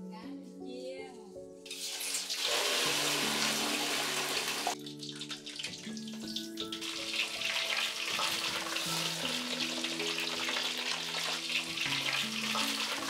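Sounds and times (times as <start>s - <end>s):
soft background music: 0.0s - 13.0s
fish sizzling in hot oil: 1.7s - 13.0s.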